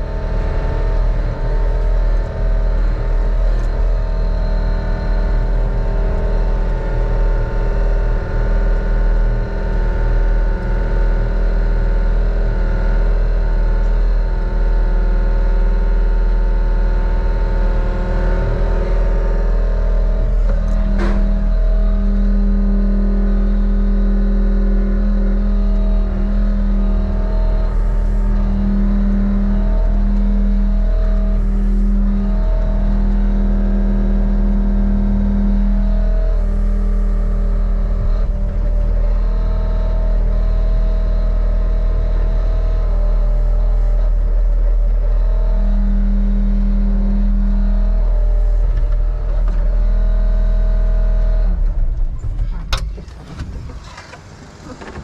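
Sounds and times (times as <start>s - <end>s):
diesel engine rumble: 0.0s - 55.0s
hum cutting in and out: 0.0s - 55.0s.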